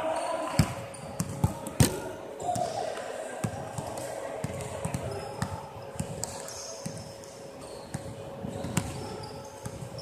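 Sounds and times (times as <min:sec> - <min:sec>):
basketballs bouncing on wooden court: 0:00.6 - 0:02.8, 0:03.4 - 0:07.1, 0:07.8 - 0:10.0.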